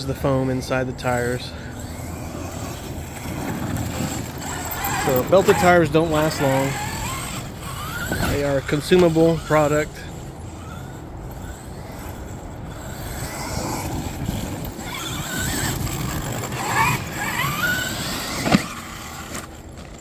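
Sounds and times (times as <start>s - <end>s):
electric motor whining: 0.0s - 20.0s
rc truck rushing noise: 0.0s - 20.0s.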